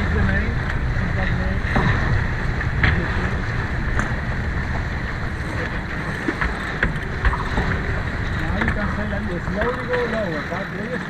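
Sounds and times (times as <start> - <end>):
wind rushing: 0.0 - 9.4
water rushing: 0.0 - 11.0.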